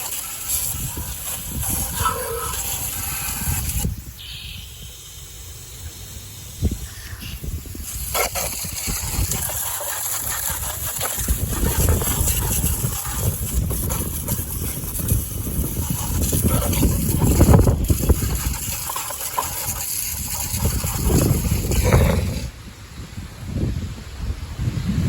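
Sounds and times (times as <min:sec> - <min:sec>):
steady hiss: 0:00.0 - 0:24.5
wind gusting against microphone: 0:00.0 - 0:25.0.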